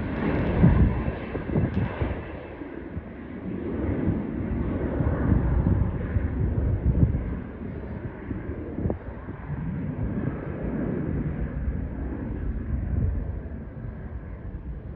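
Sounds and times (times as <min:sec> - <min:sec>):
airplane engines rumbling: 0:00.0 - 0:14.9.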